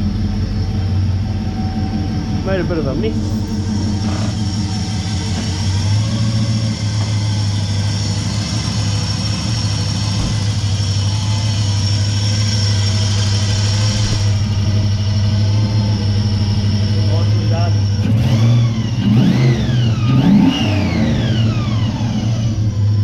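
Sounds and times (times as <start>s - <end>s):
faint high whine: 0.0s - 19.0s
car engine idling: 0.0s - 23.0s.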